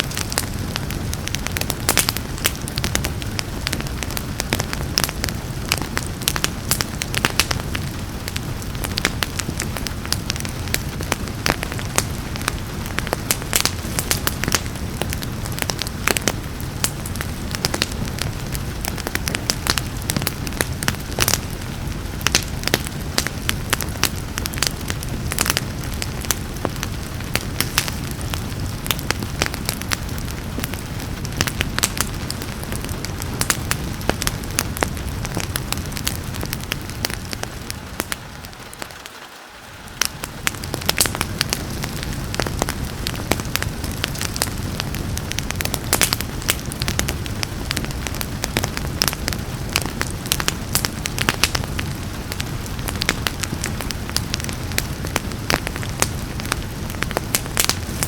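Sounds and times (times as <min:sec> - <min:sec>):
rain hiss: 0:00.0 - 0:58.0
wood fire crackling and popping: 0:00.0 - 0:58.0.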